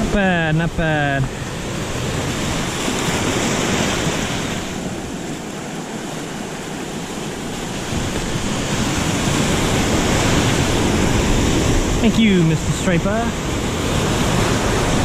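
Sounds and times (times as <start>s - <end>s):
surf washing around rocks: 0.0s - 15.0s.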